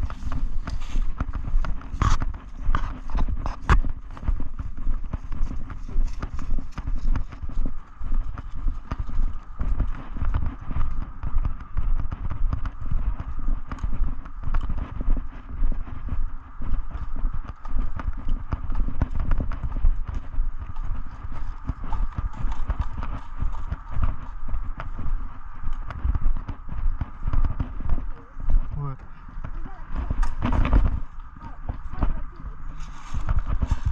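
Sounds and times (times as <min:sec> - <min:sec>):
heavy footsteps: 0:00.0 - 0:33.9.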